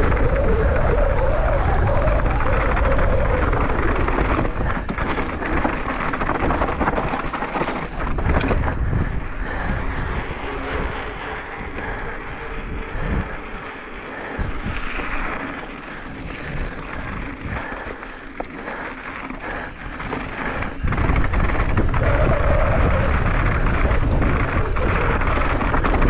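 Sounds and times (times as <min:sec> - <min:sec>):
mountain bike rattling: 0:00.0 - 0:26.0
wind buffeting microphone: 0:00.0 - 0:26.0.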